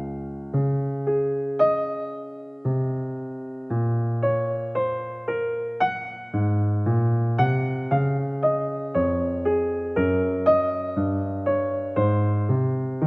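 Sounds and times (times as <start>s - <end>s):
slow piano-like keyboard music: 0.0s - 13.0s.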